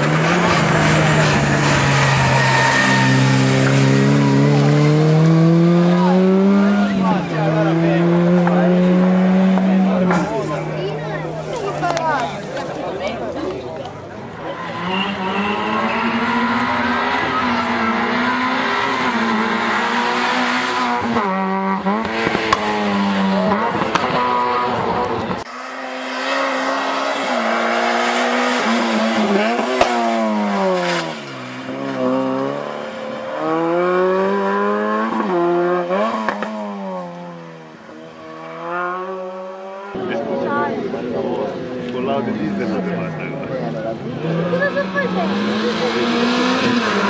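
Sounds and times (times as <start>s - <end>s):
race car engine revving: 0.0s - 47.0s
second race car engine: 0.0s - 47.0s.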